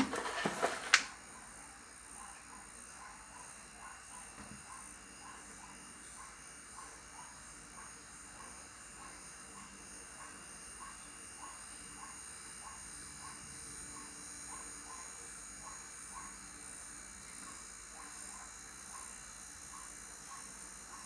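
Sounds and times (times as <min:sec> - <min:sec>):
fridge compressor humming: 0:00.0 - 0:21.0.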